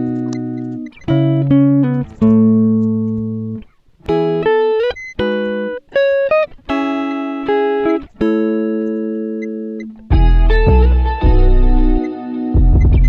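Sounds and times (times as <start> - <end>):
guitar chords ringing: 0.0 - 13.0.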